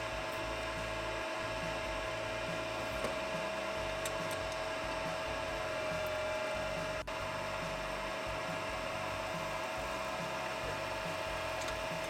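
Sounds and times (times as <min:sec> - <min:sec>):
lathe motor whine: 0:00.0 - 0:12.0.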